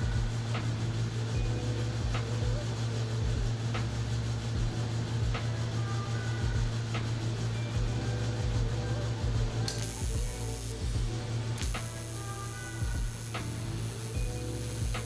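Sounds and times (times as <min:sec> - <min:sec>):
welder electrical hum: 0:00.0 - 0:15.0.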